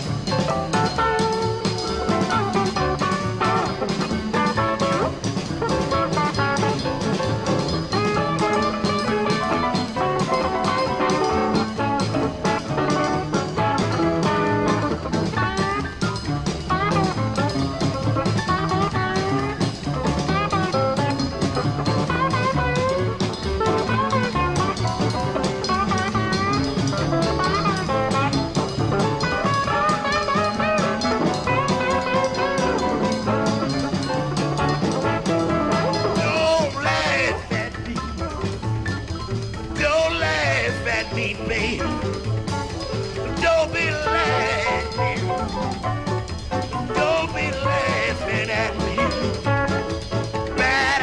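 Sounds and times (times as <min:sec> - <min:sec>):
bass: 0:00.0 - 0:51.0
drum kit steady beat: 0:00.0 - 0:51.0
electric guitars playing blues: 0:00.0 - 0:51.0.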